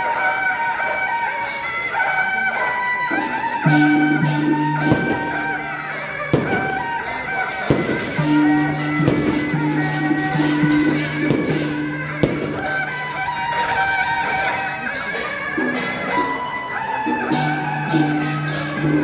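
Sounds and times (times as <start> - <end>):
music with held low notes: 0.0 - 19.0
sharp percussion strikes: 0.1 - 19.0.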